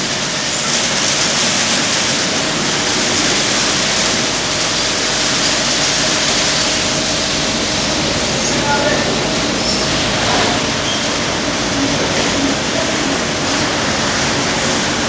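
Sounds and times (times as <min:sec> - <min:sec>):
faint machinery hum: 0:00.0 - 0:15.0
water spraying hiss: 0:00.0 - 0:15.0.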